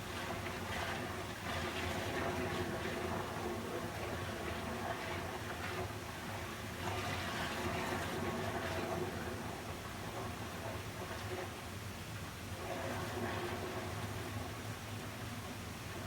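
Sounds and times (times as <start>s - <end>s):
water flowing steadily: 0.0s - 16.0s.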